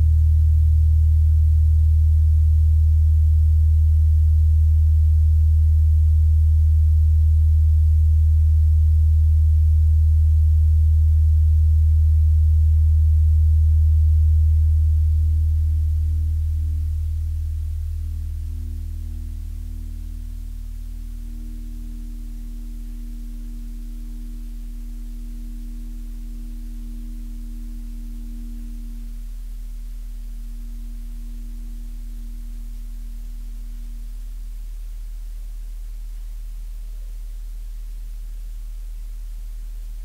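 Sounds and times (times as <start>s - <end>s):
faint pulsing high tones: 0.0s - 40.0s
low drone of pure tones: 0.0s - 40.0s.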